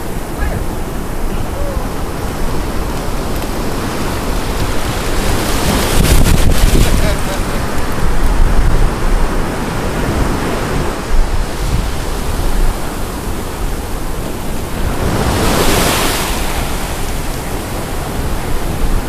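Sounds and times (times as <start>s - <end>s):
surf washing on sand: 0.0s - 19.0s
wind on microphone: 0.0s - 19.0s.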